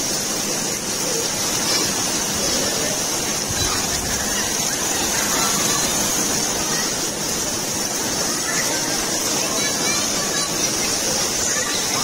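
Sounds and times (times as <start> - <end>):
rain falling on pool water: 0.0 - 12.0.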